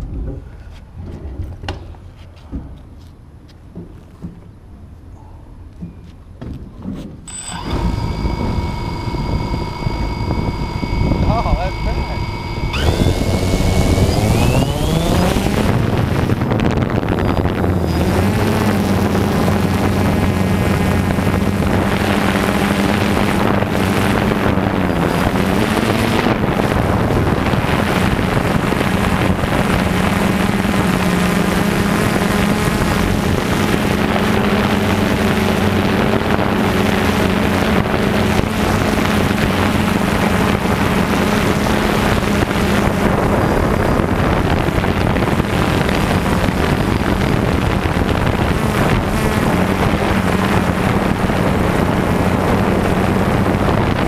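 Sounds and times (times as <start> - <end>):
drone propellers buzzing: 7.3 - 54.0.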